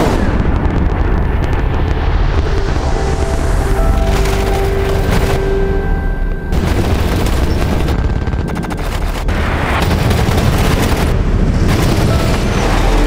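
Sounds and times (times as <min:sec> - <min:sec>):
orchestral film score: 0:00.0 - 0:13.0.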